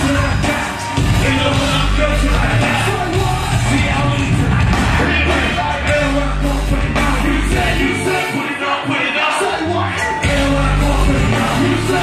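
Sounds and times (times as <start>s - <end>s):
crowd yelling: 0.0s - 12.0s
live rap-rock music: 0.0s - 12.0s.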